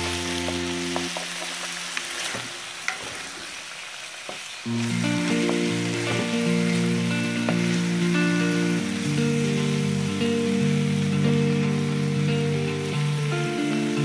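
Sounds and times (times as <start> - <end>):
background music with held notes: 0.0 - 2.4, 4.7 - 14.0
chicken sizzling in frying pan: 0.0 - 14.0.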